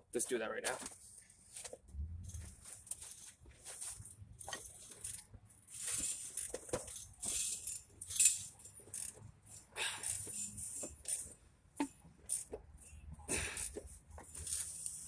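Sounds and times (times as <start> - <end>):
metal tools clinking: 2.4 - 15.0.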